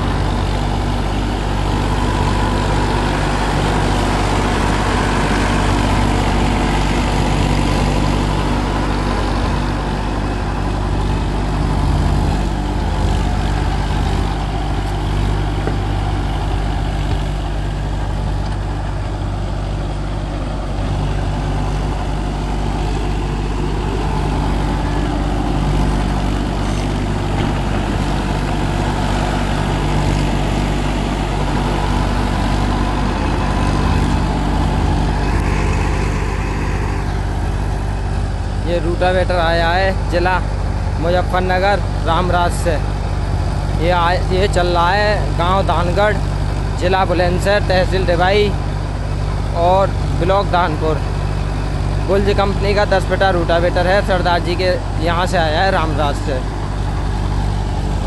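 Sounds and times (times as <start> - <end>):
rotavator churning soil: 0.0 - 58.0
tractor diesel engine running: 0.0 - 58.0.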